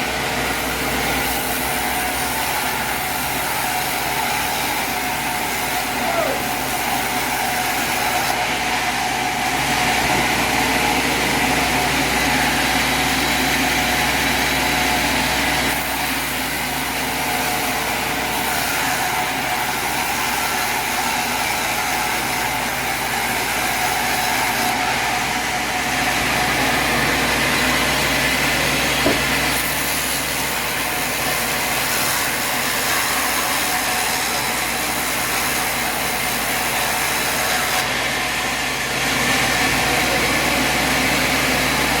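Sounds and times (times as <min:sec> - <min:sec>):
sawmill engine running: 0:00.0 - 0:42.0.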